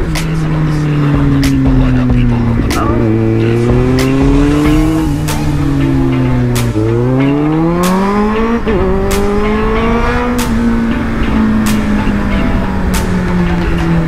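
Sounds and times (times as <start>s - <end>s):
motorcycle engine accelerating: 0.0s - 14.0s
music with slow beat: 0.0s - 14.0s.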